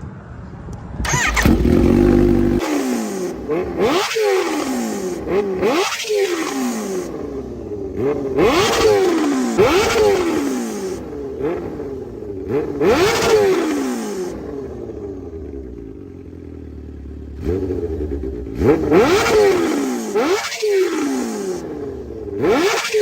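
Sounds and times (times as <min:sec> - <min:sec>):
motorcycle engine revving: 0:01.0 - 0:23.0.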